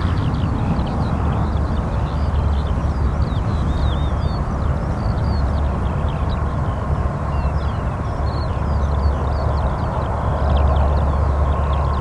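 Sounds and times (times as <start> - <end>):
small birds chirping: 0.0 - 12.0
turboprop engines rumbling: 0.0 - 12.0.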